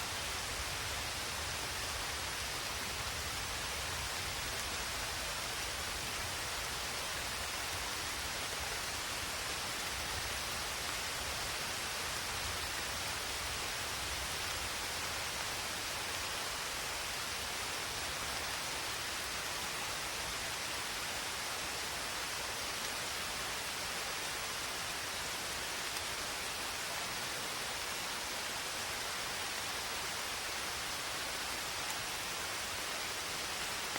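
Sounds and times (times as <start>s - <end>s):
rain hissing: 0.0s - 33.9s.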